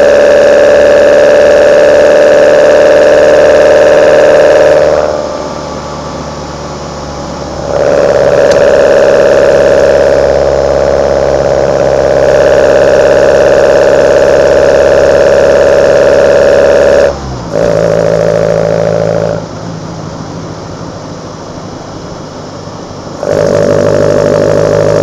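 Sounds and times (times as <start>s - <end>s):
engine intake under load: 0.0s - 25.0s.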